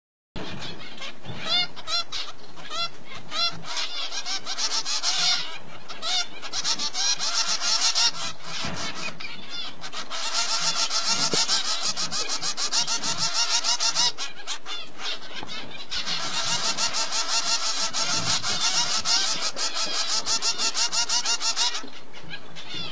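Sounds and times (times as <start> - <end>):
chicks begging chirps: 0.4 - 22.9.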